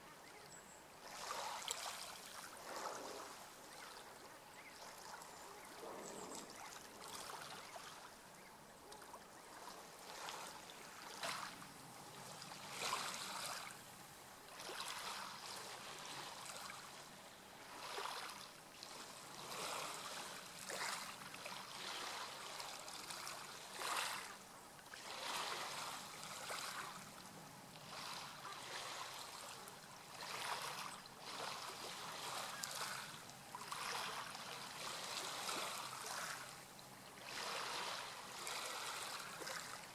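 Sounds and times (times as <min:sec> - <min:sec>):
water lapping and trickling: 0:00.0 - 0:39.9.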